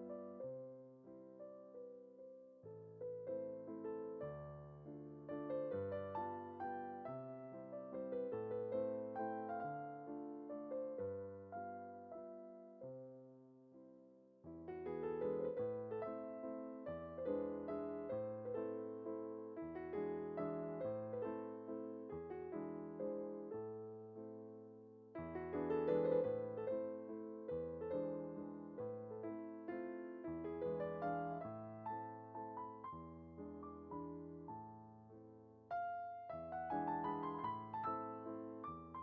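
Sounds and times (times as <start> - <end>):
gentle piano melody: 0.0 - 39.0.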